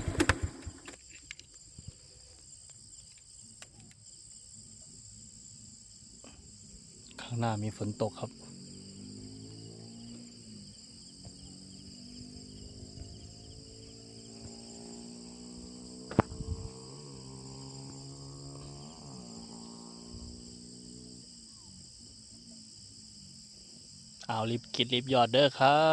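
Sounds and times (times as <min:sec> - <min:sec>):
crickets and insects chirping: 0:00.0 - 0:25.9.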